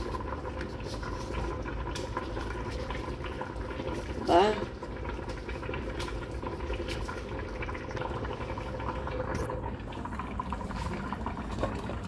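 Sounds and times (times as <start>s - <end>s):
stew bubbling in pot: 0.0s - 12.0s.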